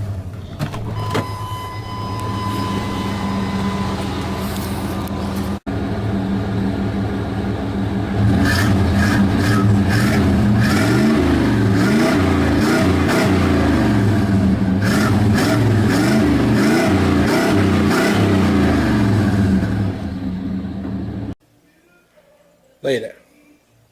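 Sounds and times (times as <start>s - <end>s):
vehicle engine revving: 2.1s - 21.4s.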